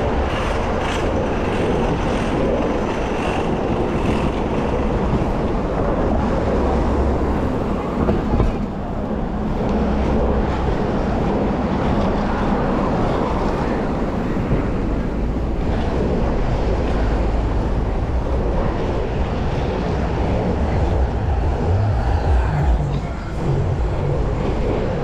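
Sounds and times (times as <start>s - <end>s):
city traffic: 0.0s - 25.0s
wind on microphone: 0.0s - 25.0s.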